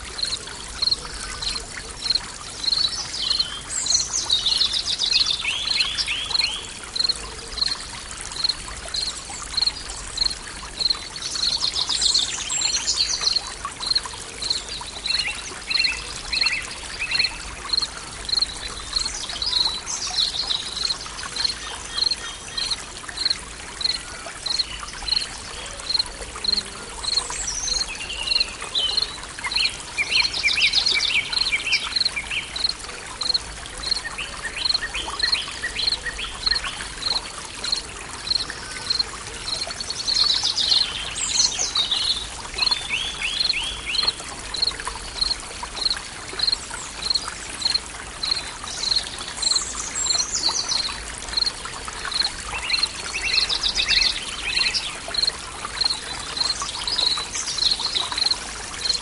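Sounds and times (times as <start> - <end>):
water trickling: 0.0 - 59.0
songbirds calling: 0.2 - 7.8, 8.4 - 59.0.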